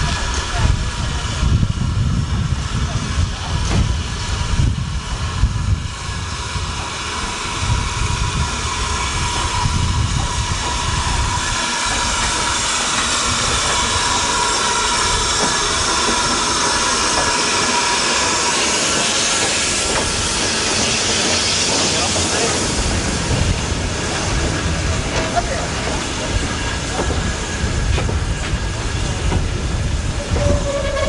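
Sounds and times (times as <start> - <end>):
steam locomotive hissing steam: 0.0 - 31.0.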